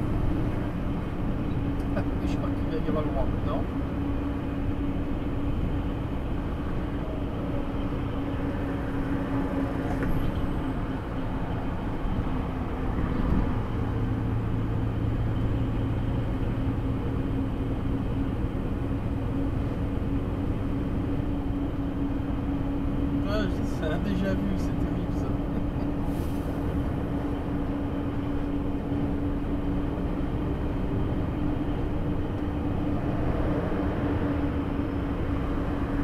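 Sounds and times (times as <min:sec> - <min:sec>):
engine and road noise: 0:00.0 - 0:36.0.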